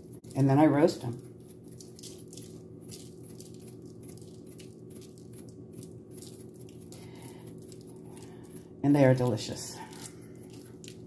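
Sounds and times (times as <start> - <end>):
salt shaker rattling: 0.0 - 11.0
steady low hum: 0.0 - 11.0.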